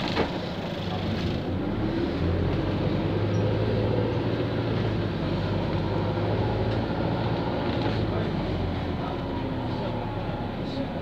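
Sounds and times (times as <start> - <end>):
traffic engine hum: 0.0 - 11.0.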